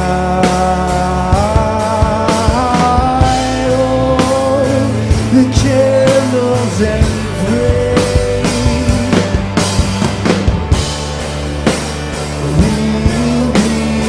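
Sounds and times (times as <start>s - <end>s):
live rock band playing: 0.0s - 14.0s
steady drum beat: 0.0s - 14.0s.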